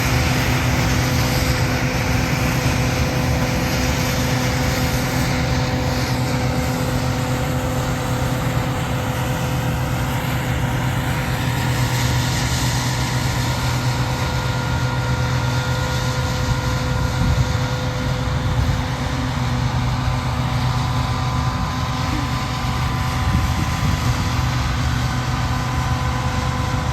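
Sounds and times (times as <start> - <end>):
combine harvester running: 0.0 - 26.9.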